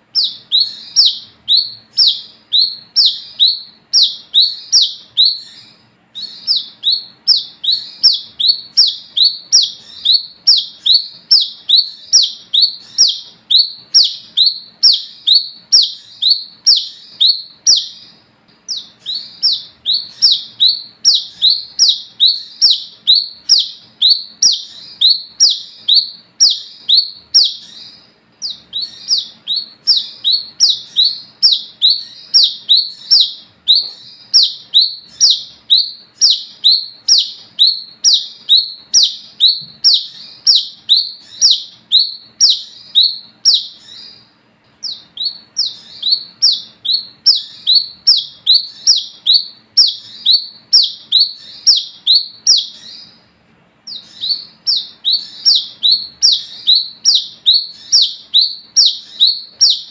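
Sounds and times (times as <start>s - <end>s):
bird calling sharp whistles: 0.0s - 53.2s, 53.9s - 59.9s
faint steady hum: 0.0s - 59.9s.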